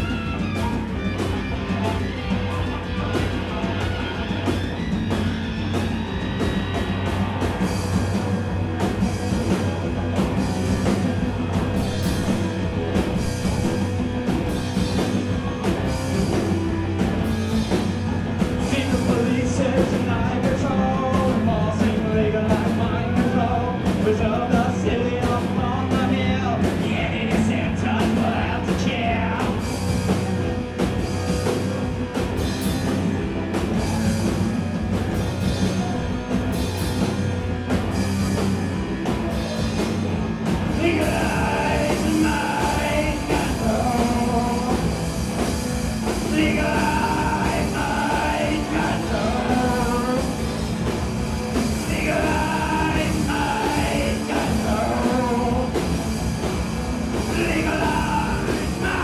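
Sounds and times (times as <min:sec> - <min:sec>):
drum kit with cymbals: 0:00.0 - 0:59.0
electric guitar: 0:00.0 - 0:59.0
keyboard: 0:00.0 - 0:59.0.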